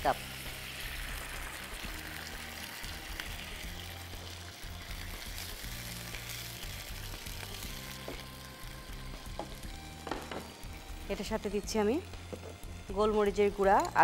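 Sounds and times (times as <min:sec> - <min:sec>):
chicken sizzling in hot oil: 0:00.0 - 0:13.8.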